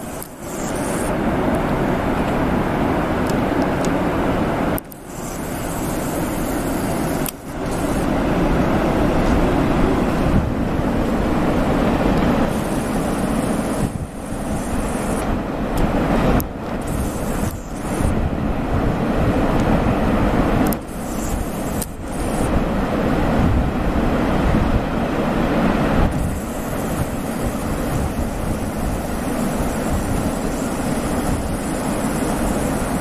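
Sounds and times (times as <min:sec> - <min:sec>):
steady rushing outdoor noise: 0:00.0 - 0:33.0.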